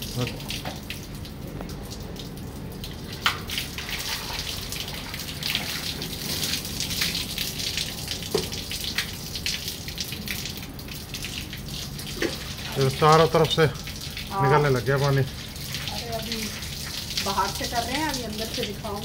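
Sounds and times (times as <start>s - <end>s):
water splattering on air conditioner: 0.0s - 19.0s.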